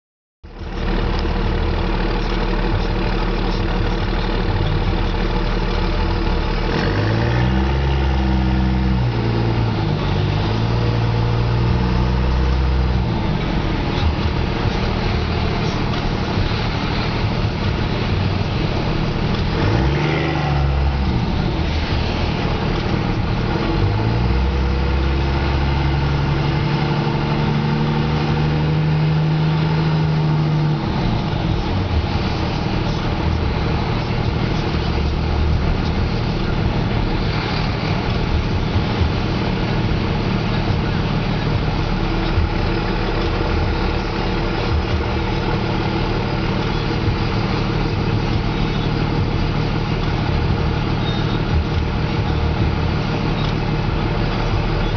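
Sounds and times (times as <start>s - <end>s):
diesel engine revving: 0.5s - 54.9s.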